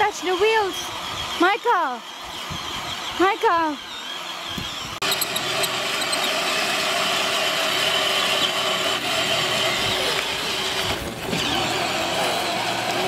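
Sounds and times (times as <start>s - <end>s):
toy car electric motors whining: 0.0s - 13.0s.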